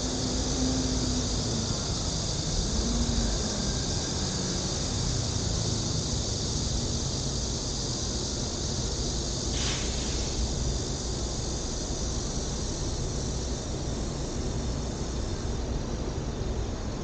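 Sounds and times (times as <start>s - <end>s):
distant traffic rumble: 0.0s - 16.9s
high-pitched insect drone: 0.0s - 17.0s.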